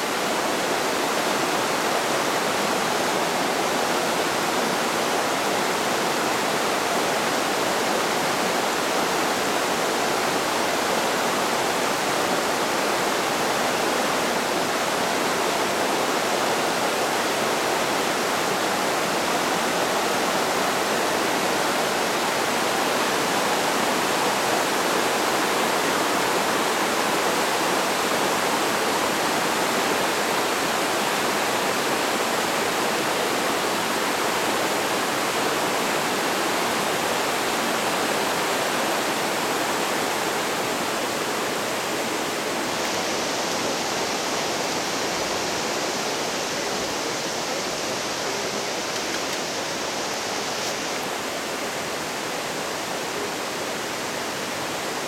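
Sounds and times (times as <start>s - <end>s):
creek rushing over rocks: 0.0s - 55.0s.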